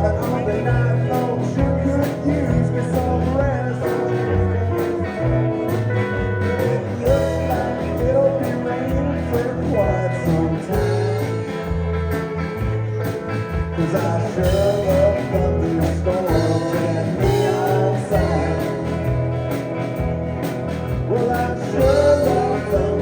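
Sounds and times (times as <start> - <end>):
country band playing: 0.0 - 23.0
drums beating: 0.0 - 23.0.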